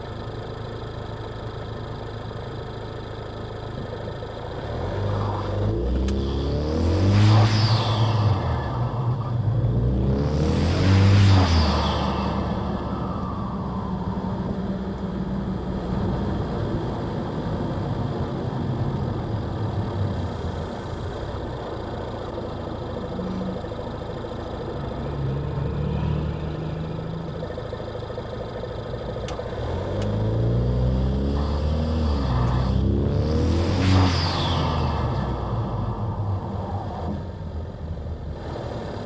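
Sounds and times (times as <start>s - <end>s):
car engine droning and accelerating: 0.0s - 39.0s.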